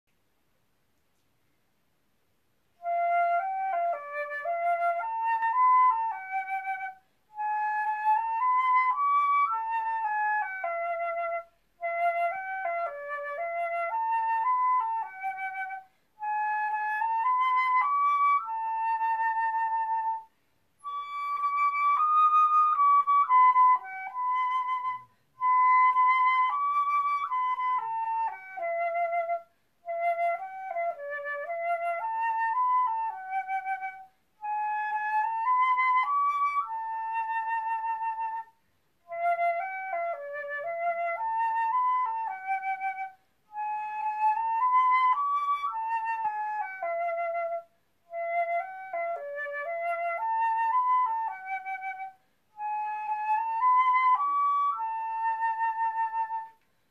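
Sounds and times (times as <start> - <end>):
solo flute playing hymn melody: 2.7 - 56.9.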